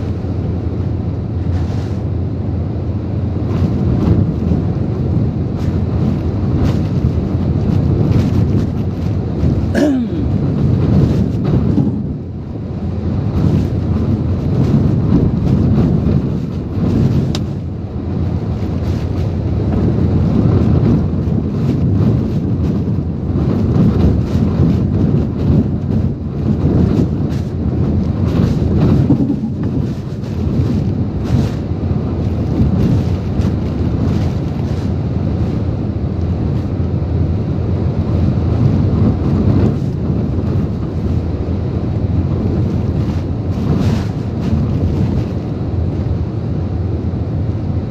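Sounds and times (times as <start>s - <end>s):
gusting wind and rain: 0.0s - 47.9s
wind rumble on microphone: 0.0s - 47.9s.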